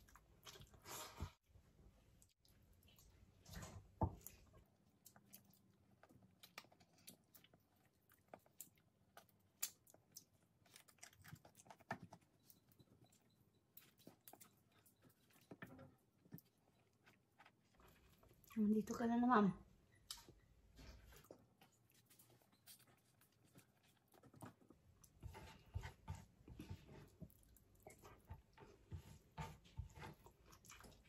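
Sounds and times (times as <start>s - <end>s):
person chewing: 0.0s - 1.3s, 2.1s - 18.6s, 20.0s - 31.0s.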